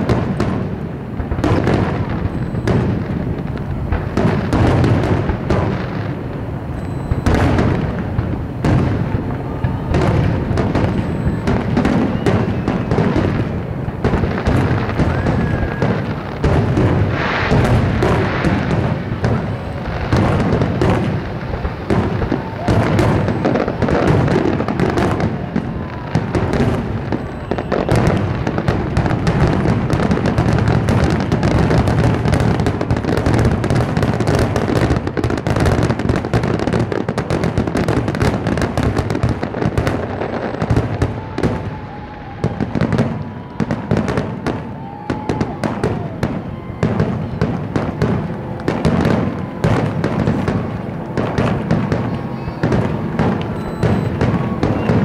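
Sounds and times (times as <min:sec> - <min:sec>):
fireworks booms: 0:00.0 - 0:55.0
fireworks bursting and crackling: 0:00.0 - 0:55.0.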